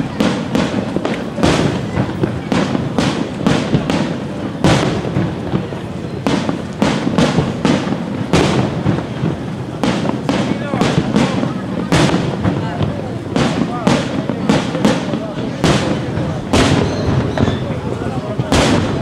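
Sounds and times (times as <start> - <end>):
fireworks bursting with echoes: 0.0 - 19.0.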